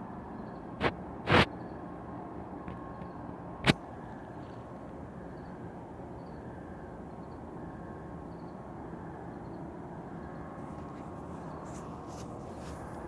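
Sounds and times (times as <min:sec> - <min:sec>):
distant droning hum: 0:00.0 - 0:13.0.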